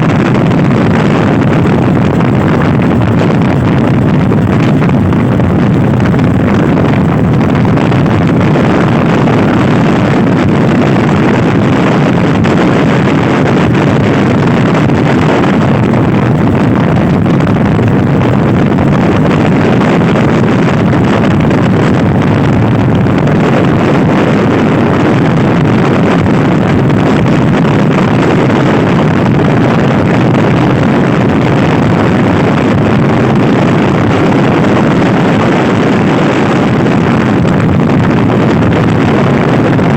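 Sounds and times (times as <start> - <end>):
wind buffeting the microphone: 0.0 - 39.9.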